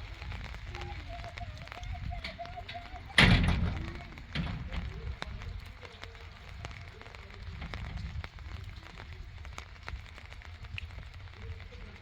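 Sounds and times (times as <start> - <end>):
raindrops ticking: 0.0 - 12.0.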